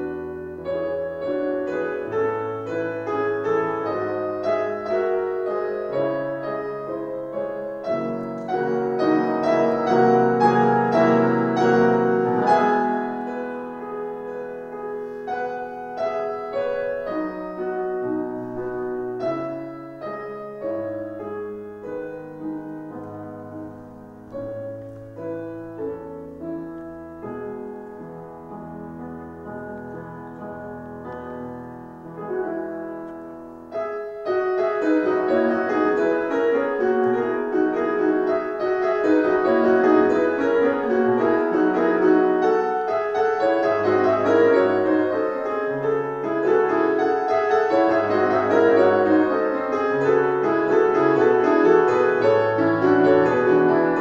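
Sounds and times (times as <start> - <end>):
grand piano playing solo: 0.0 - 54.0.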